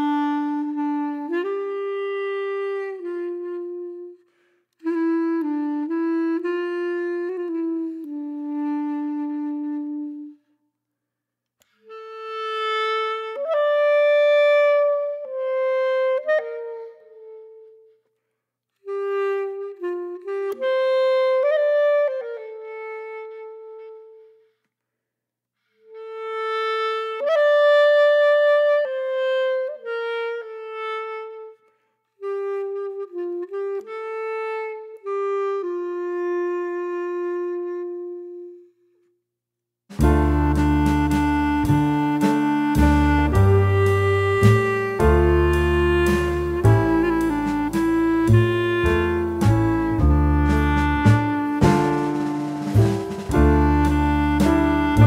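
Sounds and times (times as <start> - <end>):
solo woodwind melody: 0.0 - 10.6, 11.6 - 18.2, 18.8 - 24.6, 25.6 - 39.2, 39.9 - 55.0.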